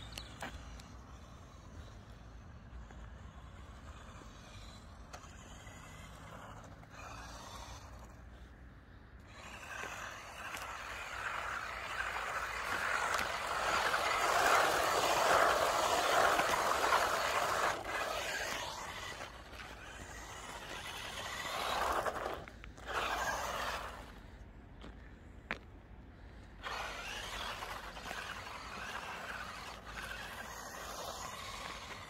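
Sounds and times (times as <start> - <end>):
rc car tyres hissing on tarmac: 0.0 - 8.5, 9.2 - 24.2, 26.5 - 32.0.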